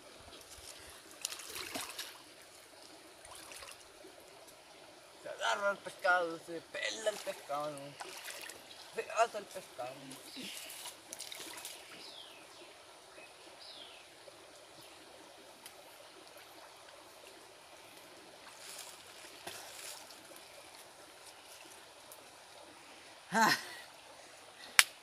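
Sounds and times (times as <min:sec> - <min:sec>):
water trickling and lapping: 0:00.0 - 0:25.0.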